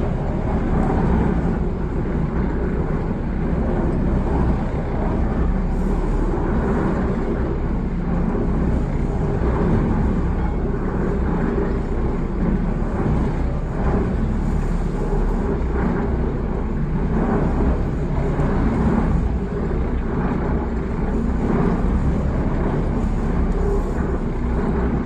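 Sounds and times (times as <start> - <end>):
boat motor rumbling: 0.0 - 25.0.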